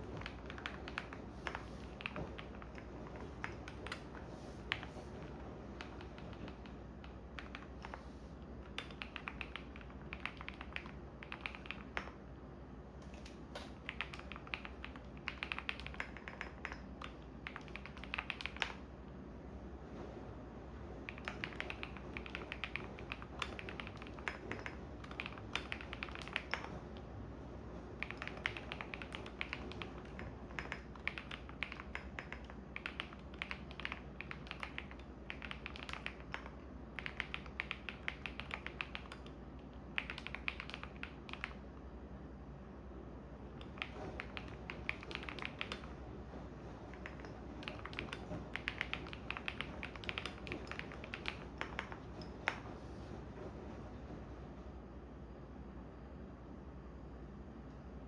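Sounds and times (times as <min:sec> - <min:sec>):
typing on computer keyboard: 0:00.0 - 0:05.0, 0:05.7 - 0:12.3, 0:13.0 - 0:18.9, 0:21.0 - 0:27.2, 0:27.8 - 0:41.7, 0:43.5 - 0:52.8
washing machine humming: 0:00.0 - 0:58.0.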